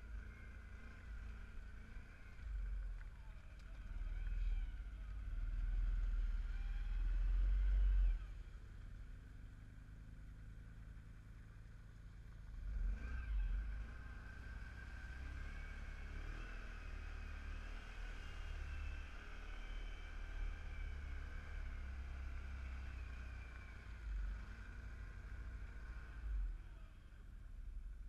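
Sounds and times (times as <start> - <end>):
off-road vehicle engine rumble: 0.0 - 28.0.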